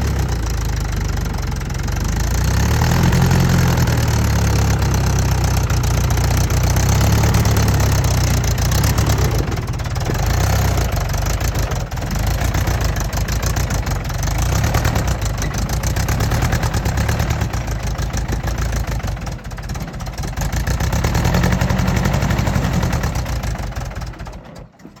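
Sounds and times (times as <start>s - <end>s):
tractor diesel engine running unevenly: 0.0s - 25.0s.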